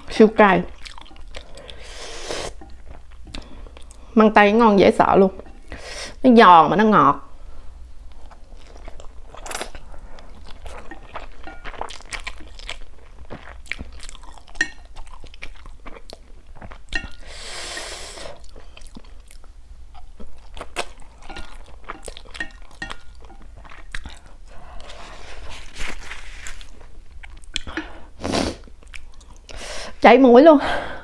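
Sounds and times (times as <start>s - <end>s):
person chewing noodles: 0.7s - 4.1s, 8.1s - 29.6s.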